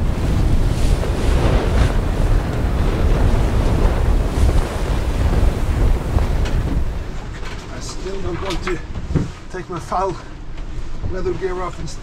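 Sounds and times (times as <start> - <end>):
waves breaking: 0.0 - 12.0
wind buffeting microphone: 0.0 - 12.0.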